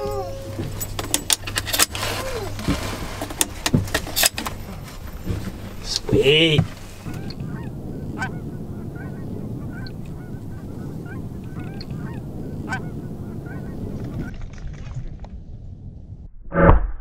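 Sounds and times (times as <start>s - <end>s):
geese honking: 0.0s - 14.3s
low rumble: 0.0s - 17.0s.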